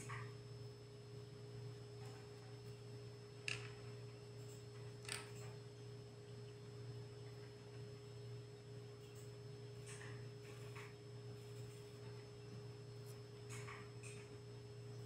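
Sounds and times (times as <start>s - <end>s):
faint steady tone: 0.0s - 15.0s
low electrical hum: 0.0s - 15.0s.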